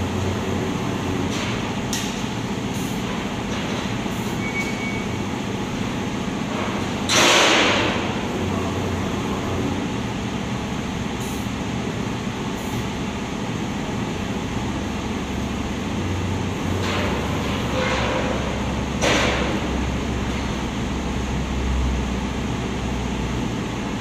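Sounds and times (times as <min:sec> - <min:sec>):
printing machine hum: 0:00.0 - 0:24.0.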